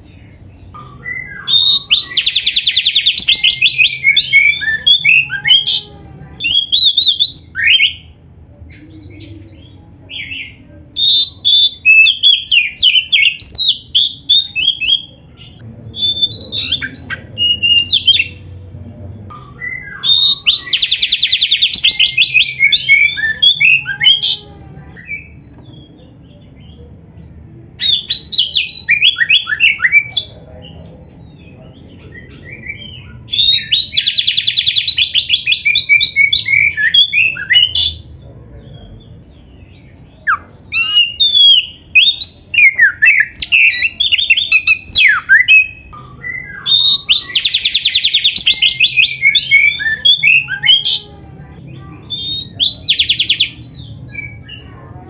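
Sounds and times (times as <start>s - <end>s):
bird singing whistles and chatter: 0.2s - 18.4s, 19.3s - 38.1s, 38.9s - 54.8s.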